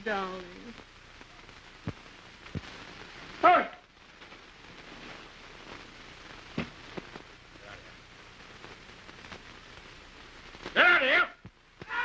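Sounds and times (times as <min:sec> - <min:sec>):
film soundtrack hiss and crackle: 0:00.0 - 0:12.0.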